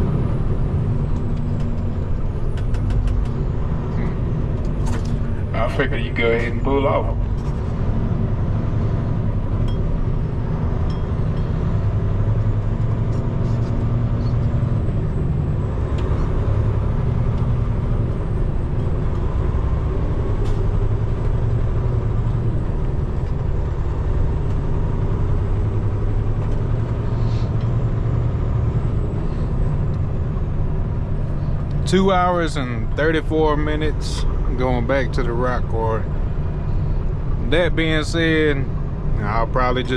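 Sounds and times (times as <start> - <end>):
road noise: 0.0 - 39.9
truck diesel engine droning: 0.0 - 39.9.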